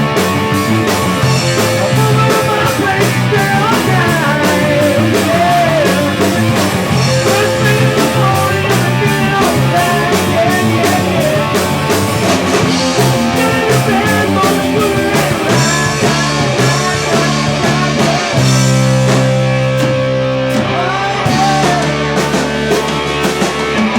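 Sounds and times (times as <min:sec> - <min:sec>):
rock music with guitar and drums: 0:00.0 - 0:23.9.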